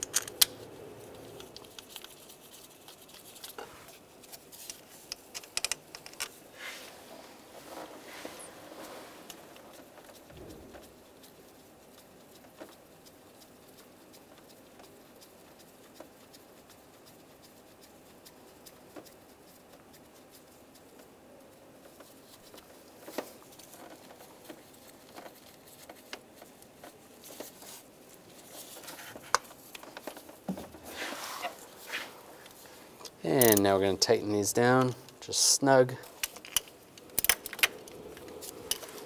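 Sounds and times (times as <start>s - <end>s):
light clicks and scrapes: 0.0s - 21.2s, 21.8s - 39.0s
rustling: 0.0s - 39.0s.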